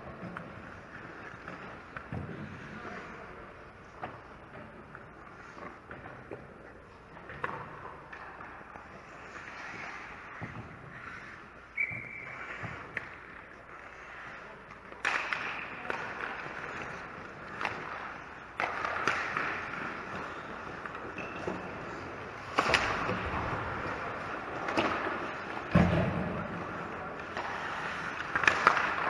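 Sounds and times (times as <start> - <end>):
hockey sticks and puck clacking: 0.0 - 29.0
skate blades scraping ice: 0.0 - 29.0.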